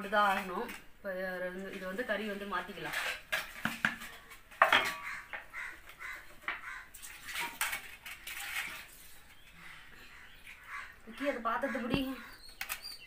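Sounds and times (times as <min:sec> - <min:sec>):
wooden ladle scraping clay pot: 0:01.5 - 0:13.0.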